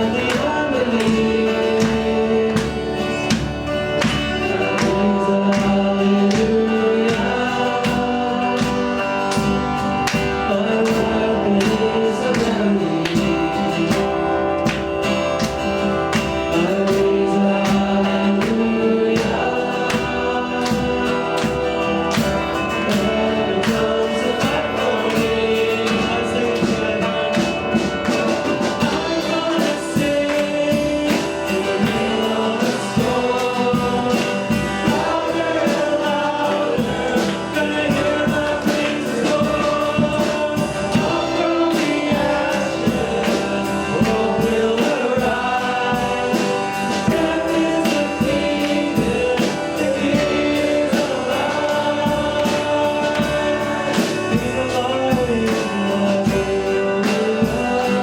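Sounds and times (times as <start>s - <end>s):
band with drum beat: 0.0s - 58.0s
group singing worship song: 0.0s - 58.0s.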